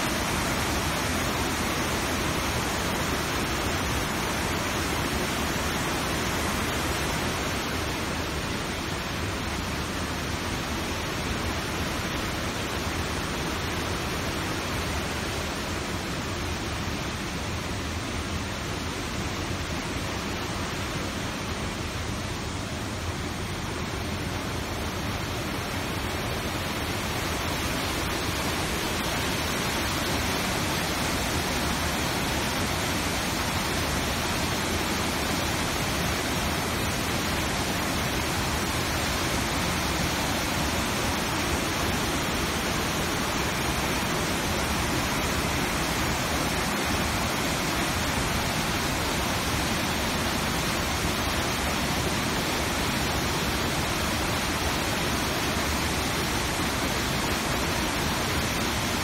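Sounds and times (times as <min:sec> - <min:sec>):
river rapids roaring: 0:00.0 - 0:59.0.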